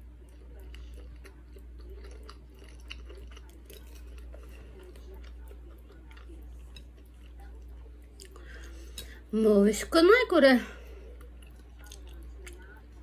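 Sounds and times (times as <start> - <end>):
person chewing noodles: 0.0 - 9.2, 10.9 - 13.0.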